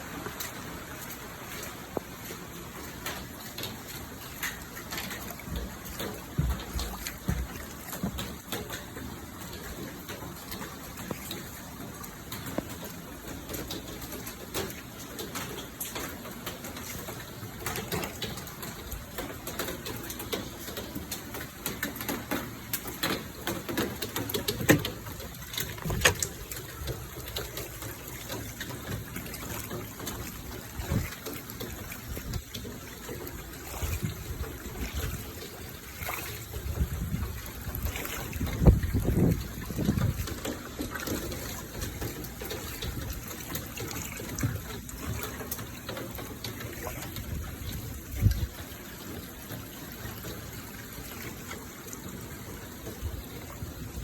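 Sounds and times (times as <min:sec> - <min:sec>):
sharp drip ticks: 0:00.0 - 0:53.9
heavy rain falling: 0:00.0 - 0:54.0
water running over ground: 0:00.0 - 0:54.0.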